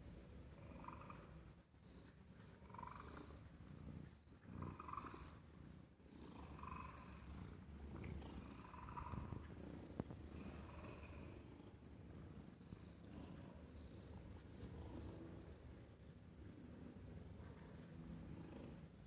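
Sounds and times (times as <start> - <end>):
cat purring: 0.5 - 19.0.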